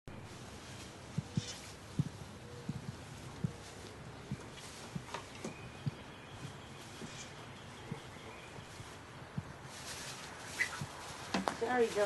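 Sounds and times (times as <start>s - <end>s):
footsteps on grass and leaves: 0.1s - 12.0s.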